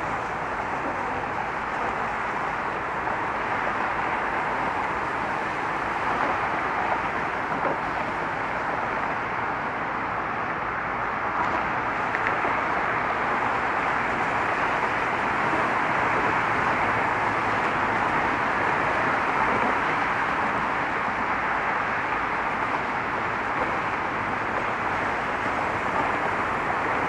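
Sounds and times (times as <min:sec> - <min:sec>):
road traffic rushing: 0:00.0 - 0:27.0.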